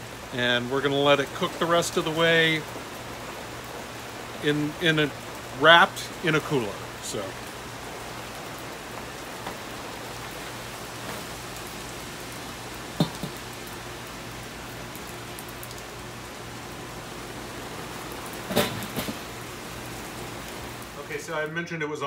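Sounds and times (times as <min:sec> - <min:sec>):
steady rain falling: 0:00.0 - 0:21.7.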